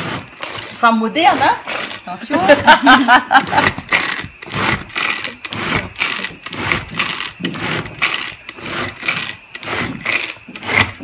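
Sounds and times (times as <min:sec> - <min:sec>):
hand food chopper whirring: 0:00.0 - 0:11.0.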